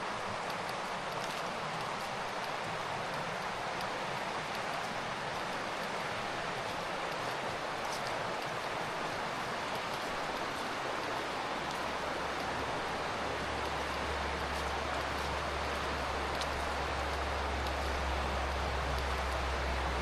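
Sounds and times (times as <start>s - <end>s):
fast-flowing river water: 0.0s - 20.0s.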